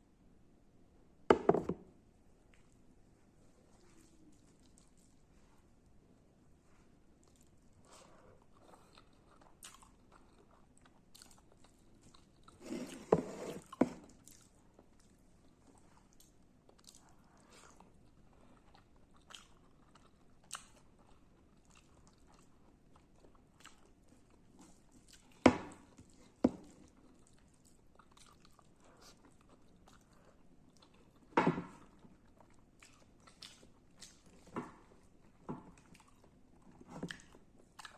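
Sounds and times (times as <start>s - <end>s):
soft wet chewing: 2.4s - 37.9s.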